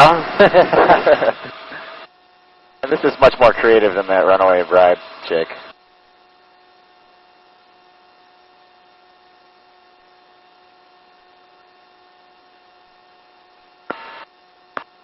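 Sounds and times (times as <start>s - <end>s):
electrical hum with whine tones: 0.0s - 15.0s.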